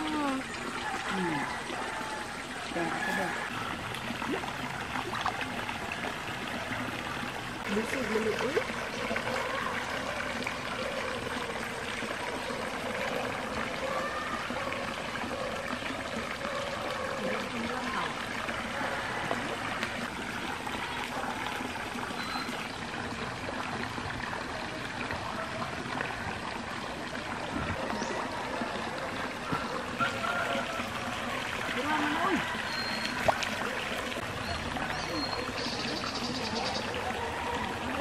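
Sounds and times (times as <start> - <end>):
water trickling: 0.0 - 38.0.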